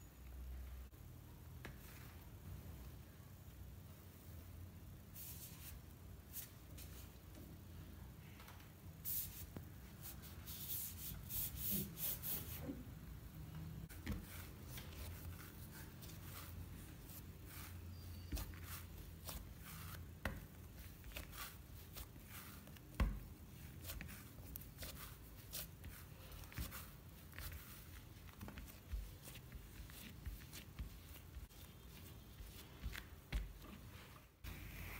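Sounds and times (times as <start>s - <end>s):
dough rubbing and handling: 0.3s - 13.1s, 13.8s - 34.9s.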